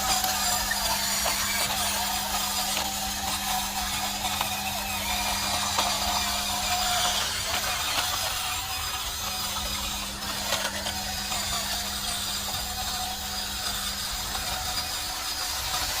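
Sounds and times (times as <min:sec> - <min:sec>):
toy electric motors whirring: 0:00.0 - 0:16.0.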